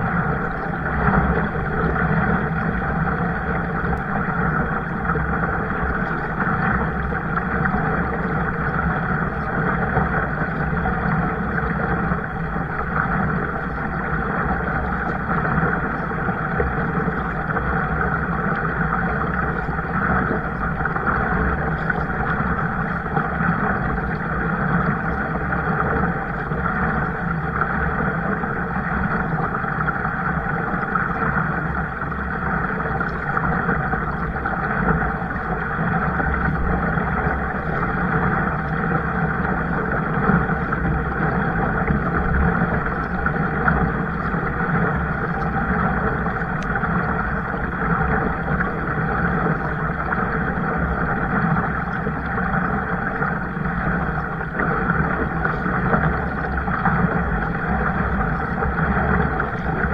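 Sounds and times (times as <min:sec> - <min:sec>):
water moving around a kayak: 0:00.0 - 0:59.9.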